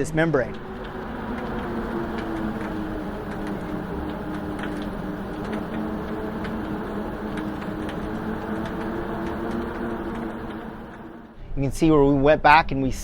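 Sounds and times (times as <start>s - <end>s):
machine drone with low hum: 0.0s - 11.4s
light ticks: 0.5s - 11.2s.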